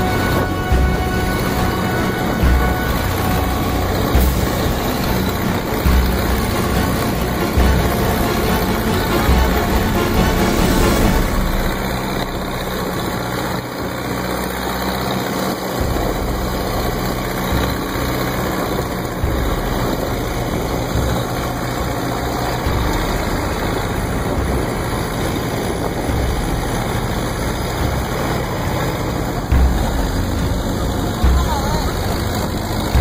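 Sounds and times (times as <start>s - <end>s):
boat engine running: 0.0s - 33.0s
water rushing along hull: 0.0s - 33.0s.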